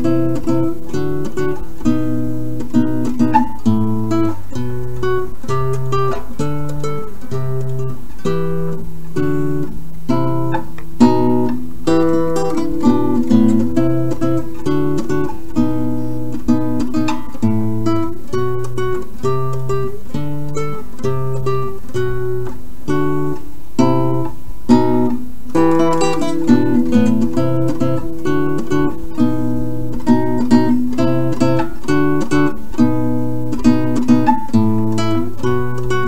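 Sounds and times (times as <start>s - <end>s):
acoustic guitar music: 0.0s - 36.0s.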